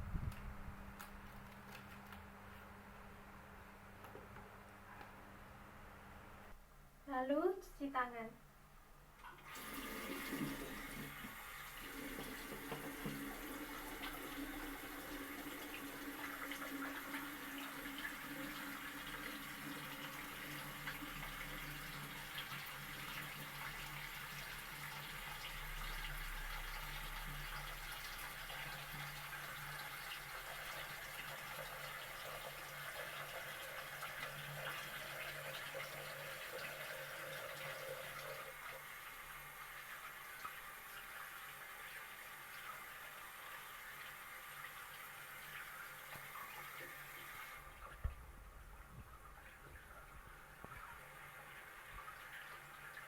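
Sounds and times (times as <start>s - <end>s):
tap water running into a sink: 9.2s - 48.2s, 48.8s - 53.0s.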